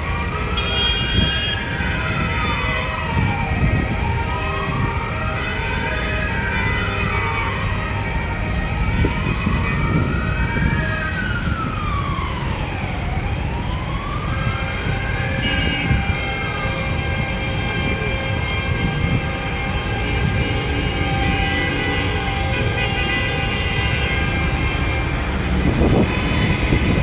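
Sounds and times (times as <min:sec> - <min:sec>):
higher siren wailing: 0:00.0 - 0:27.0
tractor engines rumbling: 0:00.0 - 0:27.0
wailing siren: 0:00.0 - 0:27.0.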